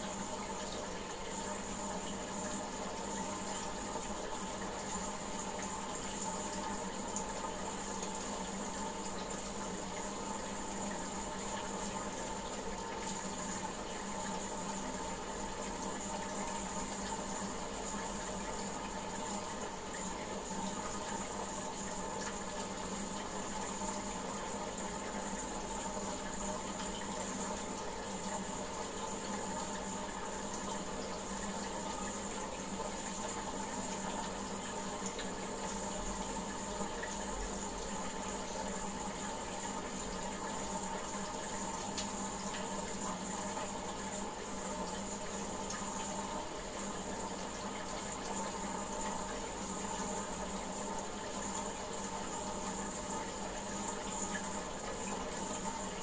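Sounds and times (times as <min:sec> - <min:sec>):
aquarium water running: 0:00.0 - 0:56.0.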